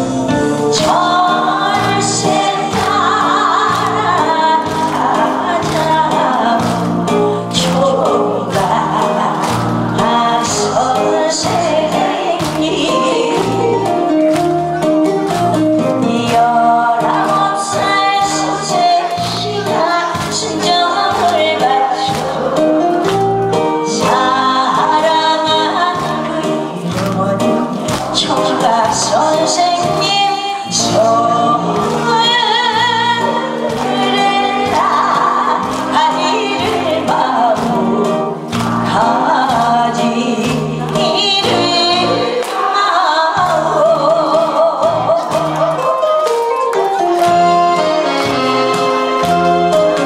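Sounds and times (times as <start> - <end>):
woman singing into a microphone: 0.0 - 14.3, 15.8 - 46.2
backing track with steady beat: 0.0 - 42.8, 43.4 - 50.0.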